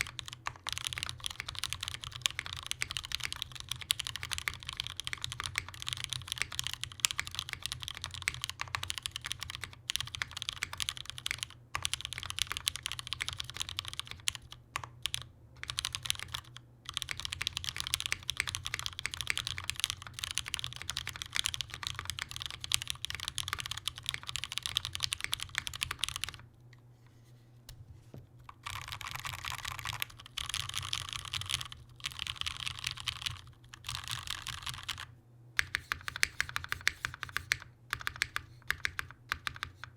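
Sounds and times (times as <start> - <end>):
mechanical keyboard typing: 0.0 - 26.4, 28.5 - 39.9.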